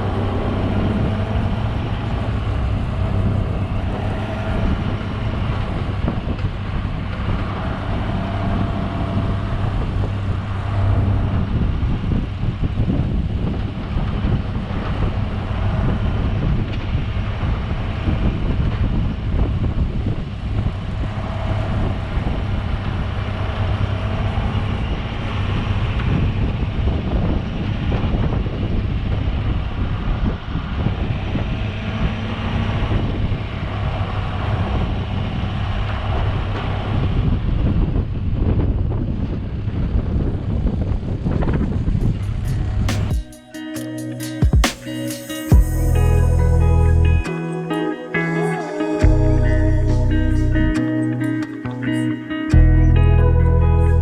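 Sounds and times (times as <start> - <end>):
road and wind noise: 0.0 - 54.0
truck engine drone: 0.0 - 54.0.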